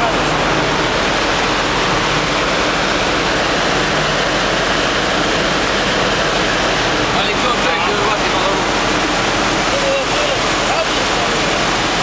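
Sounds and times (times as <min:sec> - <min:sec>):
engine room machinery roar: 0:00.0 - 0:12.0.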